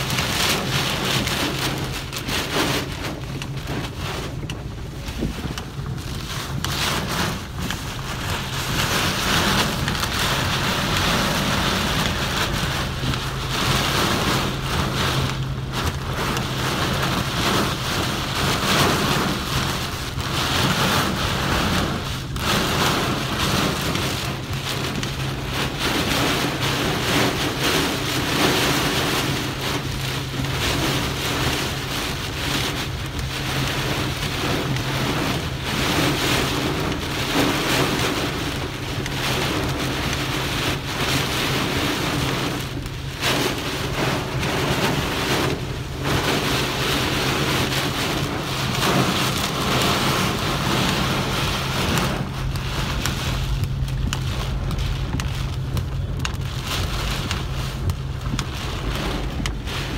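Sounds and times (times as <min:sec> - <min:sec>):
heavy rain on a car: 0:00.0 - 0:59.9.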